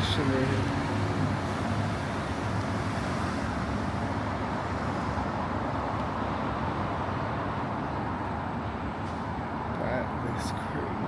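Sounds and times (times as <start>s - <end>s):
road traffic rumble and hiss: 0.0s - 11.0s.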